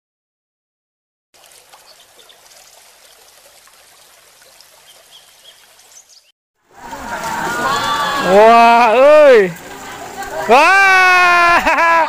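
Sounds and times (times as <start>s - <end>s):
trickling stream: 1.3s - 12.0s.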